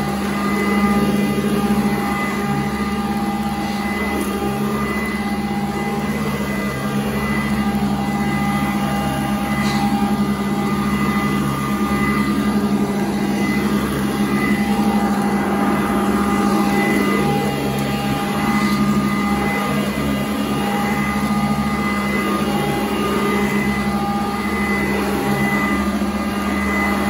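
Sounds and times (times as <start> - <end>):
upright vacuum cleaner on carpet: 0.0 - 27.0.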